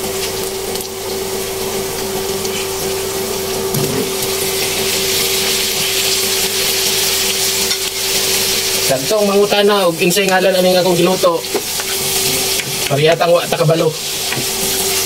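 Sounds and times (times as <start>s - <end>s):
onions sizzling in hot oil: 0.0s - 15.0s
steady hum: 0.0s - 15.0s.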